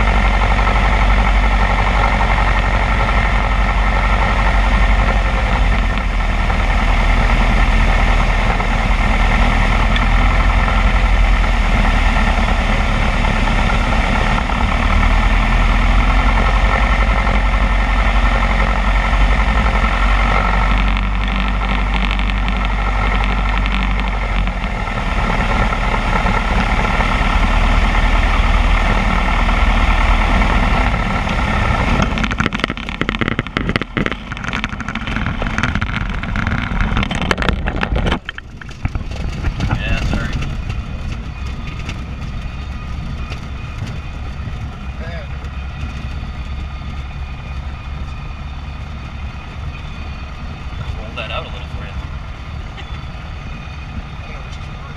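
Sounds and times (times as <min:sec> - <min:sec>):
airplane engine and propeller: 0:00.0 - 0:54.9.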